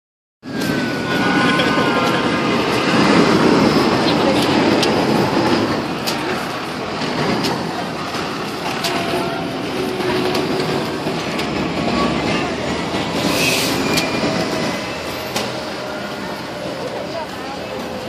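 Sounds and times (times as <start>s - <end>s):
street traffic: 0.4s - 18.0s.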